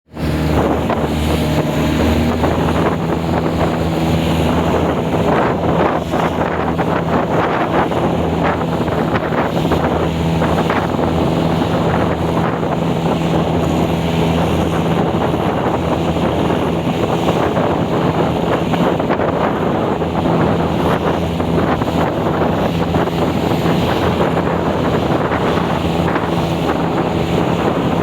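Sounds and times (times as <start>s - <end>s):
boat engine droning: 0.1s - 28.0s
wind buffeting microphone: 0.1s - 28.0s.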